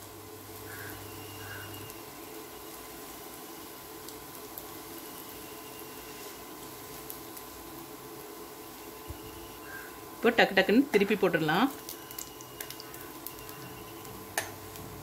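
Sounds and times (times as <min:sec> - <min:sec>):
bread sizzling in oil: 0:00.0 - 0:15.0.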